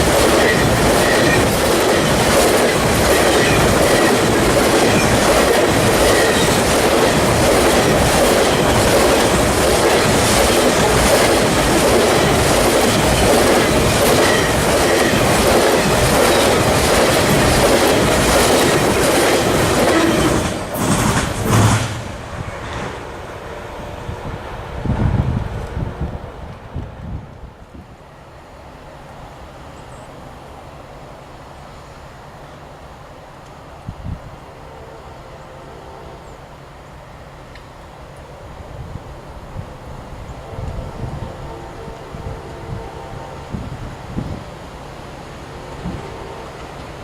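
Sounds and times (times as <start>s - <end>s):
freight train wheels rumbling on track: 0.0s - 47.0s.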